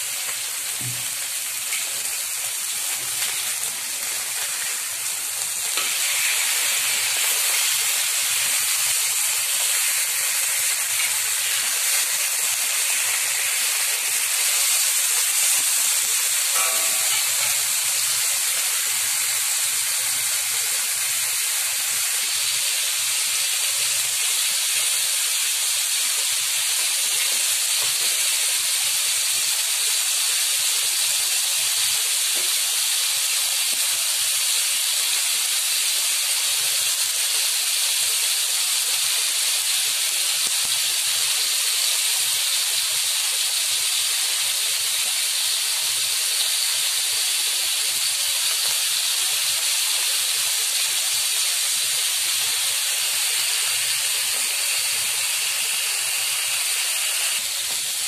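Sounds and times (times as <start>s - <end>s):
chicken sizzling in a hot pan: 0.0s - 58.0s.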